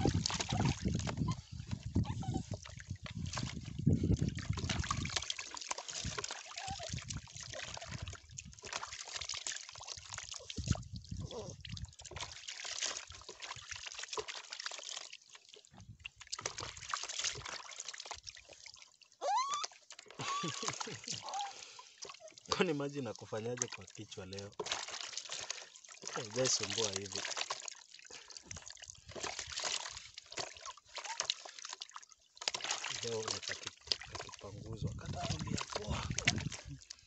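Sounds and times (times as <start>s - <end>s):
water dripping into basin: 0.0s - 37.0s
water sloshing in basin: 0.0s - 37.0s.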